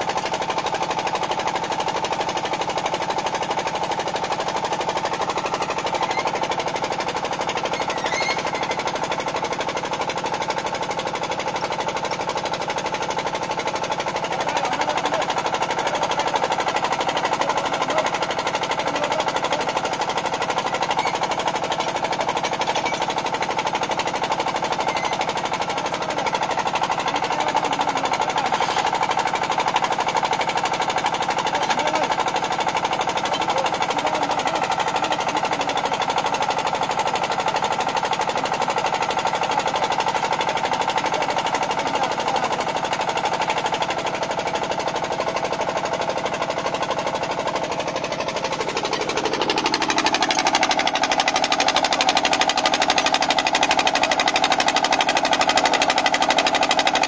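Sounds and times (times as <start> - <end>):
drilling rig engine knocking: 0.0 - 57.0.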